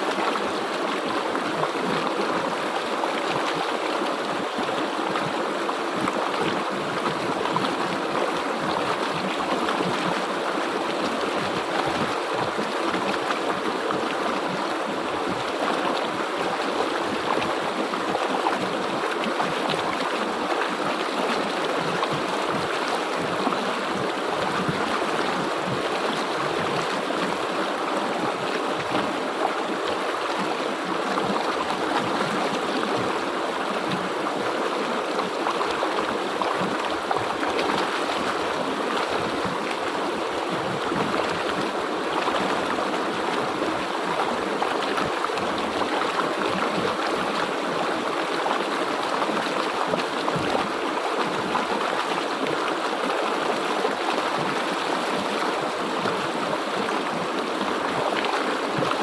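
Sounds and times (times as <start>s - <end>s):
river water rushing over rocks: 0.0s - 59.0s.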